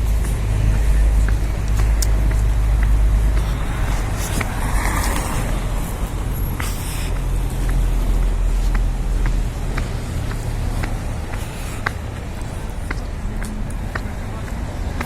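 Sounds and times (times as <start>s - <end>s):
city traffic passing: 0.0s - 15.0s
wind rumble on microphone: 0.0s - 15.0s.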